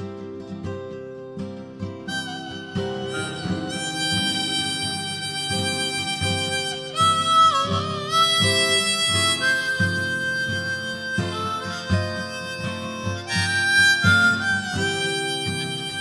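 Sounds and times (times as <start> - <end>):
blues harmonica: 0.0 - 16.0
strummed guitar: 0.0 - 16.0.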